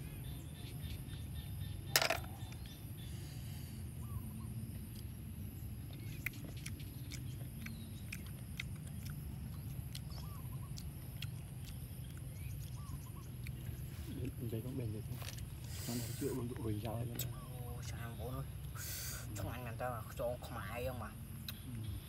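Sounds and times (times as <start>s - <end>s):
faint bird chirps: 0.0s - 8.4s, 9.0s - 22.0s
steady low rumble: 0.0s - 18.8s.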